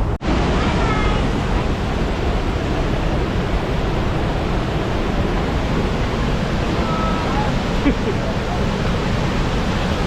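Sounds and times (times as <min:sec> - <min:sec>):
loud steady rushing noise: 0:00.0 - 0:10.0.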